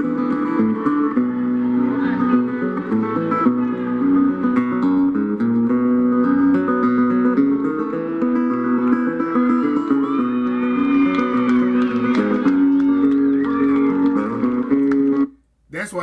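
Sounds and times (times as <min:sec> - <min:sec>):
acoustic string country music: 0:00.0 - 0:15.3.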